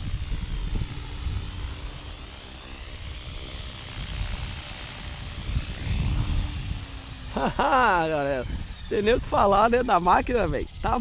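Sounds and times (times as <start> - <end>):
model helicopter hovering: 0.0 - 11.0.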